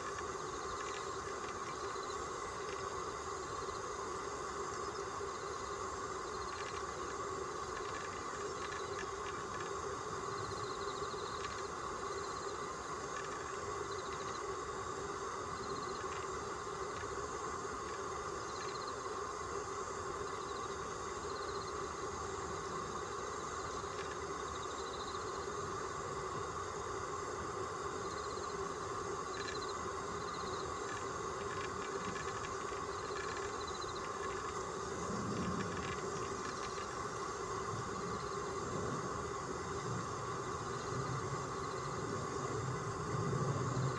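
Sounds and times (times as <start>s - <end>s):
insects chirping: 0.0s - 43.9s
outdoor background hum: 0.0s - 43.9s.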